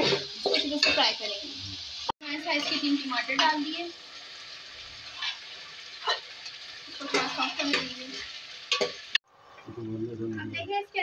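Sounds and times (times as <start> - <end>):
meat sizzling in oil: 0.0 - 9.2.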